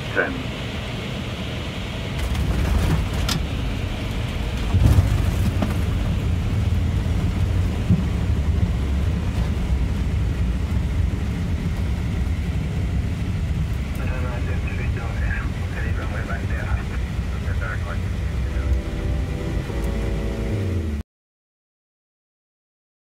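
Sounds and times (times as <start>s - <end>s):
wheels rumbling on runway: 0.0s - 21.0s.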